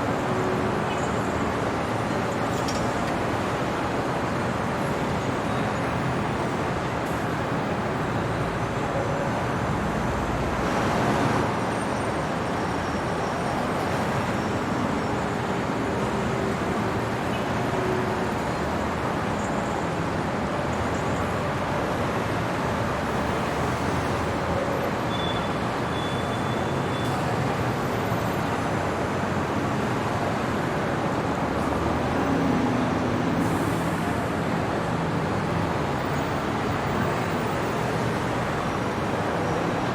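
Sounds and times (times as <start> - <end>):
city traffic noise: 0.0 - 39.9.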